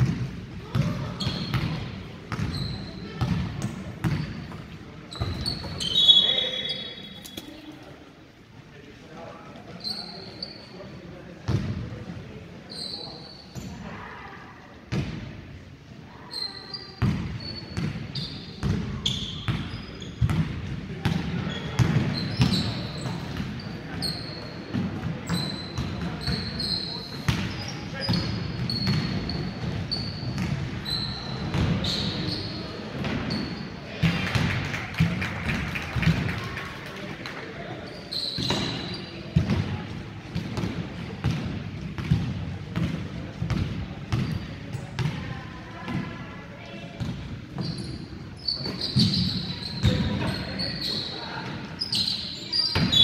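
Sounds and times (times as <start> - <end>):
sneakers squeaking: 0.0 - 8.1, 9.4 - 11.9, 12.5 - 14.0, 16.2 - 34.7, 37.5 - 53.0.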